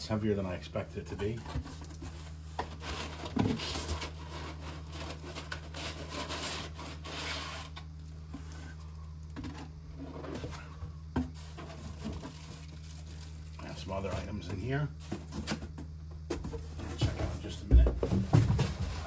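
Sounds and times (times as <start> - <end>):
steady low hum: 0.0 - 19.0
cardboard and packing rustling: 1.1 - 8.6, 9.4 - 19.0.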